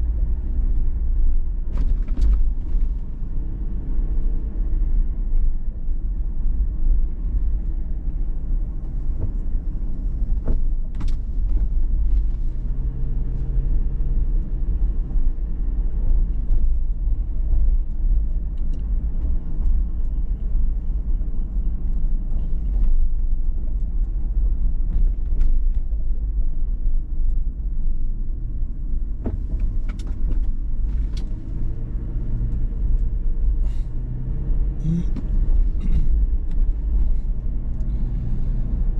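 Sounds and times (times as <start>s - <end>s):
car engine and road noise drone: 0.0s - 38.9s
engine hum: 0.0s - 38.9s.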